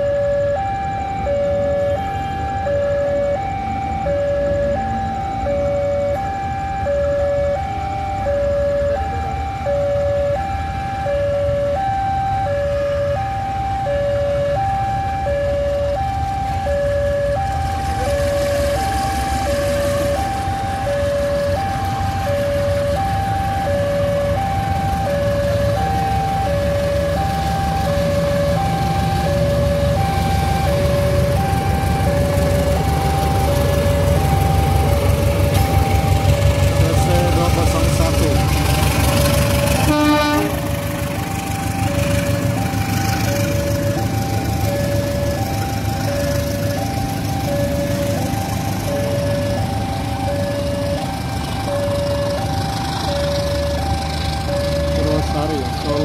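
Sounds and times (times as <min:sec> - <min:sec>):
diesel locomotive rumble: 0:00.0 - 0:56.0
two-tone warning alarm: 0:00.0 - 0:56.0.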